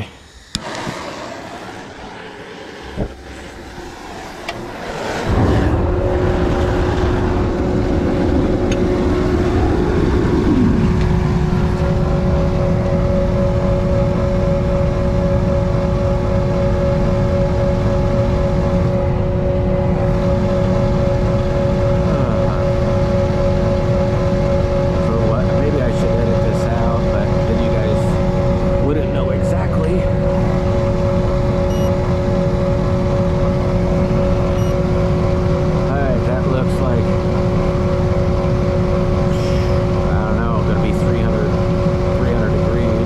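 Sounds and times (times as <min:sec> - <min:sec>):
burner hissing: 0:00.0 - 0:14.3, 0:16.3 - 0:43.0
burner roaring: 0:00.0 - 0:43.0
steady humming tone: 0:00.0 - 0:43.0.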